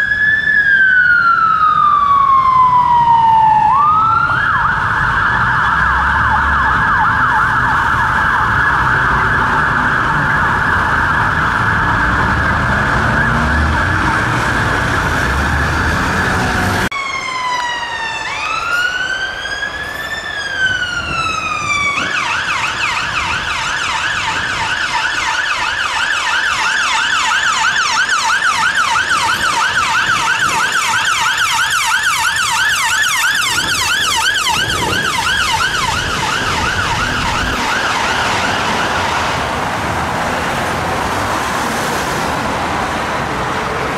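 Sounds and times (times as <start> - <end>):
siren fast yelp: 0.0 - 39.4
ambulance siren wailing: 0.0 - 43.9
ambulance siren warbling: 0.0 - 43.9
road noise: 0.0 - 43.9.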